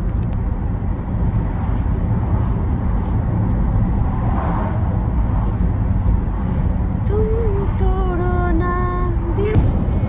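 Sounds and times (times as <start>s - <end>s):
road noise inside a car: 0.0s - 10.0s.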